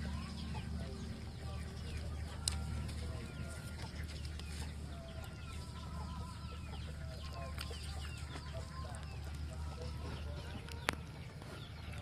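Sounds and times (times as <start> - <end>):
chickens clucking: 0.0 - 12.0
high peeping calls: 0.0 - 12.0.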